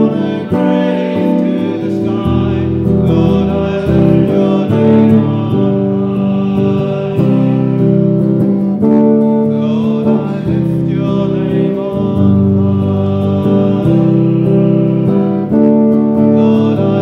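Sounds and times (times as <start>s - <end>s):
guitar: 0.0s - 17.0s
man singing: 0.0s - 17.0s.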